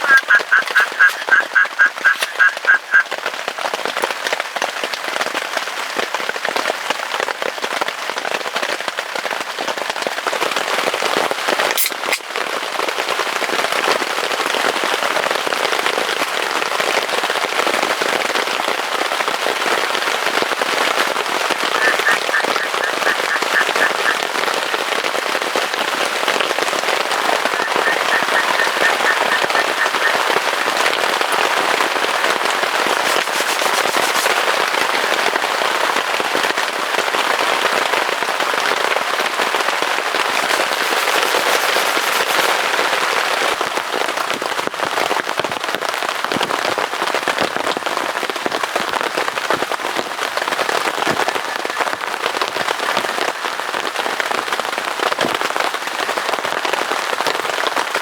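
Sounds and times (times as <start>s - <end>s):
heavy rain on surface: 0.0s - 58.0s.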